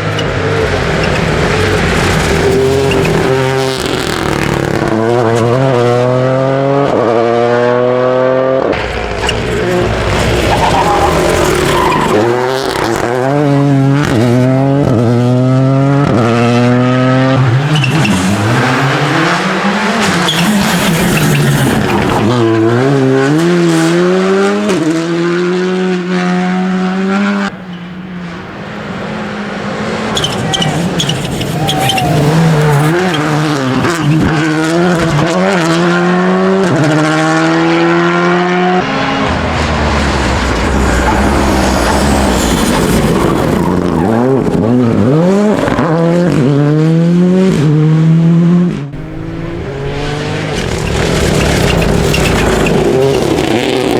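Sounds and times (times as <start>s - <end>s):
car engine revving through gears: 0.0s - 53.9s.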